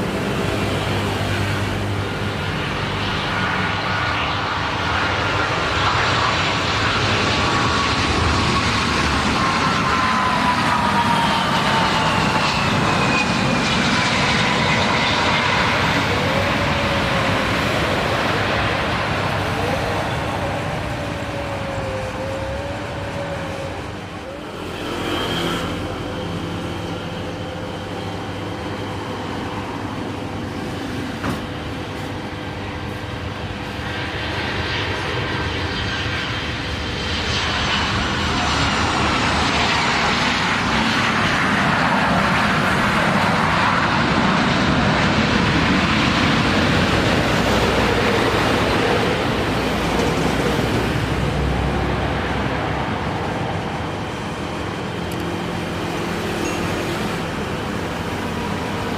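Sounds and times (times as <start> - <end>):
broad jet engine noise: 0.0 - 58.9
jet engines whining: 0.0 - 58.9.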